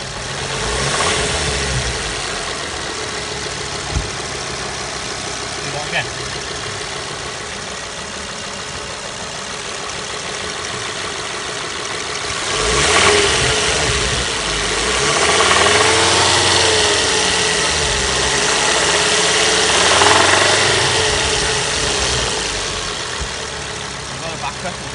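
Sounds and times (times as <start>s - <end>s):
car engine idling and revving: 0.0s - 24.9s.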